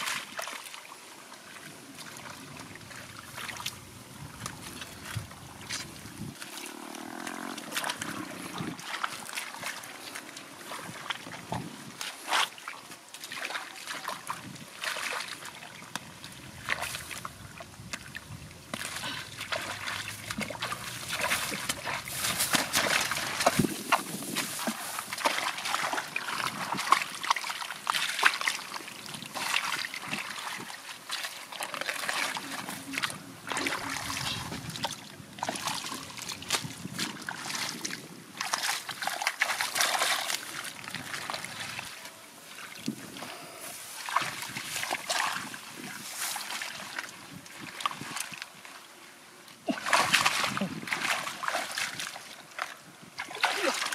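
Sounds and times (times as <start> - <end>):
hands splashing in muddy water: 7.6 - 42.0, 43.9 - 48.5, 49.7 - 53.9.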